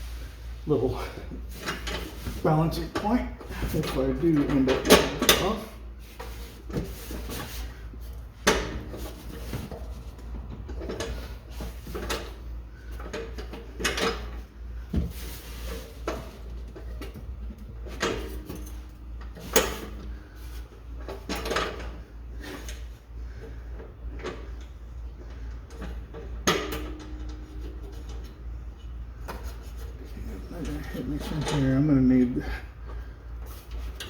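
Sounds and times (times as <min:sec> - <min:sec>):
metal clunks and scrapes: 0:01.4 - 0:32.0.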